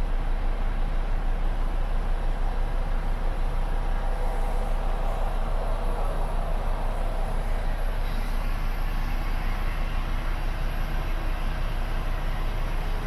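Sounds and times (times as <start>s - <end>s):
diesel engine idling: 0.1s - 13.0s.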